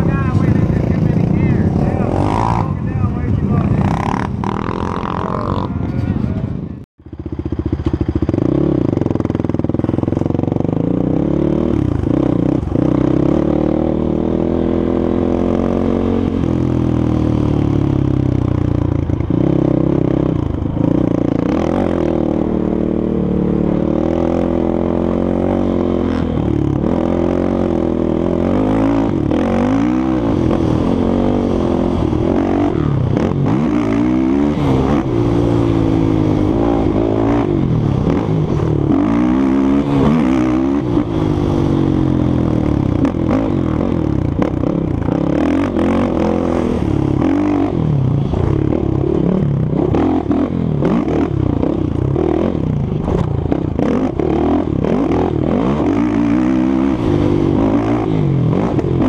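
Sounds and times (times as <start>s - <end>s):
quad engine revving: 0.0s - 6.5s, 7.2s - 59.0s.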